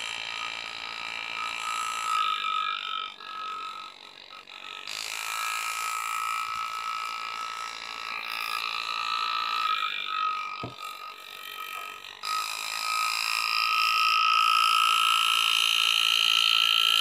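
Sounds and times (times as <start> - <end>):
engraving handpiece buzzing: 0.0 - 17.0.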